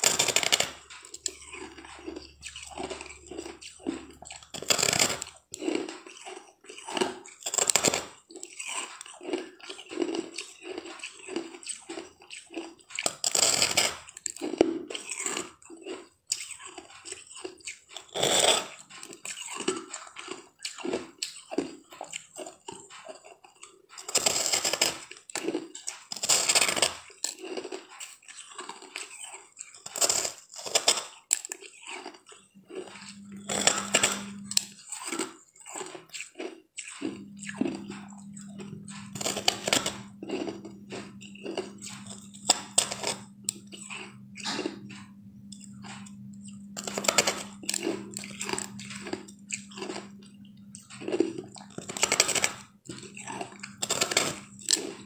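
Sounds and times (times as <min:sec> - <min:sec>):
crackling crunchy bites: 0:00.0 - 0:21.7, 0:24.1 - 0:45.0, 0:45.6 - 0:55.0
close-up chewing: 0:00.0 - 0:55.0.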